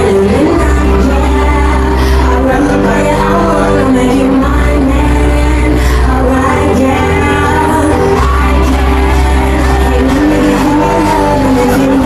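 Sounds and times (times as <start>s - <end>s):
pop song with female singing: 0.0s - 12.0s.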